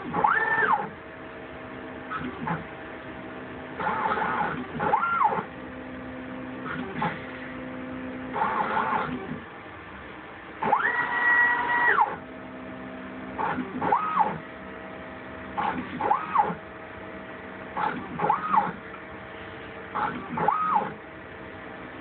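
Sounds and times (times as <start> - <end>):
stepper motors whining: 0.0 - 21.8
steady low hum: 0.0 - 22.0.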